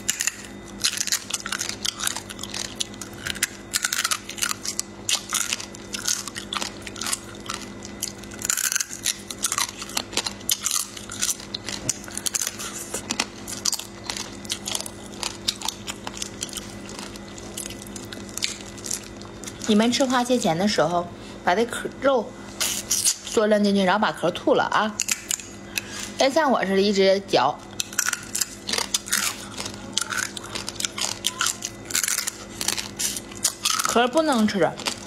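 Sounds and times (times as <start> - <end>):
crunching crab shell: 0.0 - 20.4, 24.9 - 26.2, 27.6 - 35.0
faint steady hum: 0.0 - 35.0.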